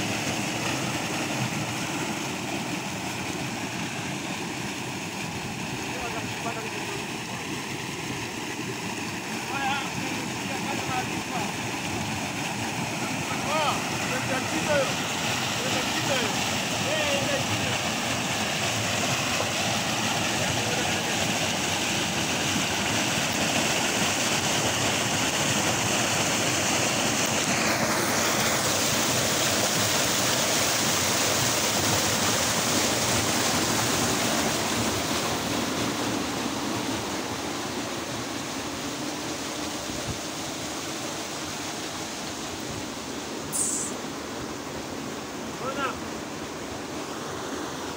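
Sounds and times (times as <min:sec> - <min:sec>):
water rushing and splashing: 0:00.0 - 0:47.9.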